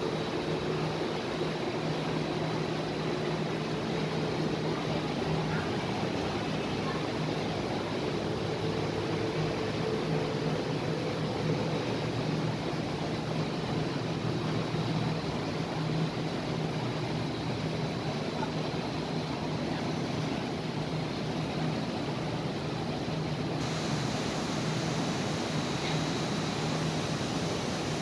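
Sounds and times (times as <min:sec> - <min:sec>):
constant low hum: 0:00.0 - 0:28.0
steady rushing noise: 0:00.0 - 0:28.0.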